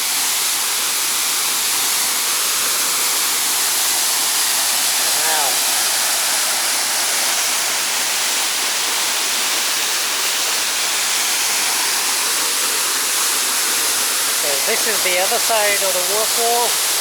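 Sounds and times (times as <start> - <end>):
waterfall crashing into pool: 0.0 - 17.0.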